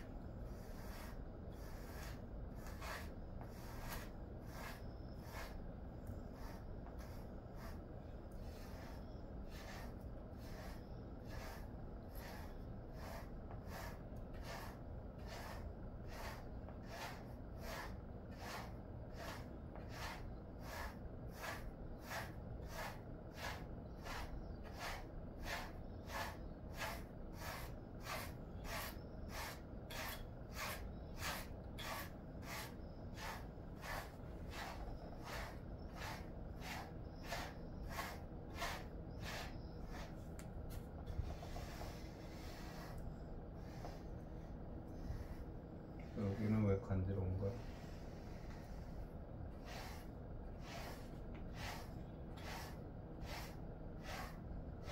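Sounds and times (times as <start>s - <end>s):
brush stroking through fur: 0.5s - 40.4s, 41.1s - 44.3s, 44.9s - 49.0s, 49.6s - 54.9s.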